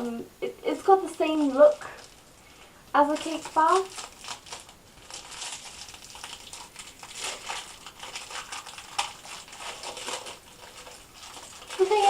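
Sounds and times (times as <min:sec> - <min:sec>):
plastic wrapper crinkling: 0:00.8 - 0:12.0.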